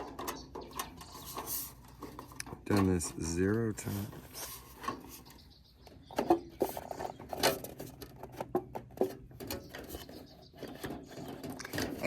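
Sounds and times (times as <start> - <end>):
gutter parts clicking and knocking: 0.0 - 12.0.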